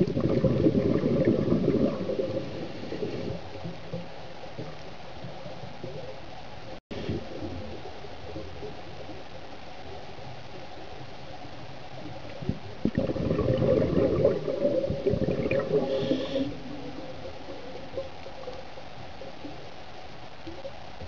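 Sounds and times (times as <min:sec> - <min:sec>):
steady underwater hiss: 0:00.0 - 0:21.0
underwater bubbling gurgle: 0:00.0 - 0:21.0.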